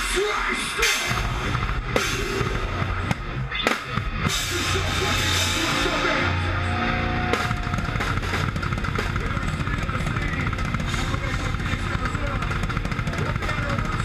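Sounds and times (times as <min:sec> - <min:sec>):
live rock band: 0:00.0 - 0:14.0
bass drum strokes: 0:01.1 - 0:14.0.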